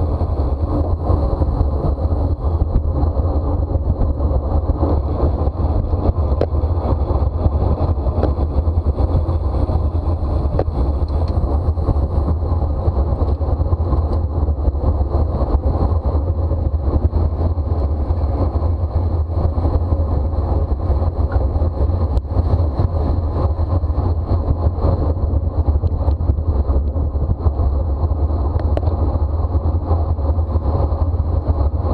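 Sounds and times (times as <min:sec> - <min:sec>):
road and tyre noise: 0:00.0 - 0:31.9
wind rumble on microphone: 0:00.0 - 0:31.9.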